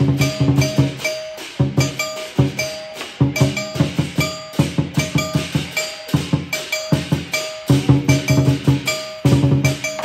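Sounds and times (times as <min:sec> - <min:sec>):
big drum beating: 0:00.0 - 0:10.0
cymbals ringing: 0:00.0 - 0:10.0
gong ringing: 0:00.0 - 0:10.0.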